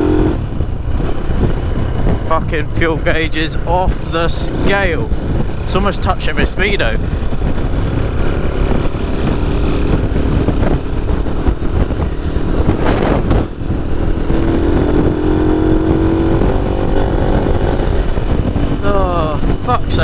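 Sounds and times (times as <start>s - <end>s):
moped engine running: 0.0s - 20.0s.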